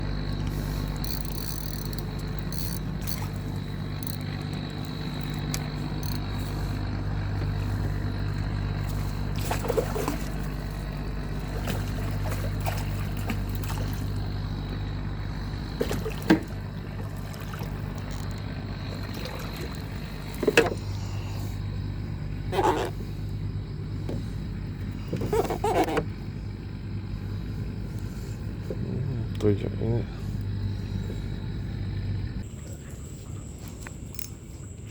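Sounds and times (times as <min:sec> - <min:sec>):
small motor droning: 0:00.0 - 0:32.4.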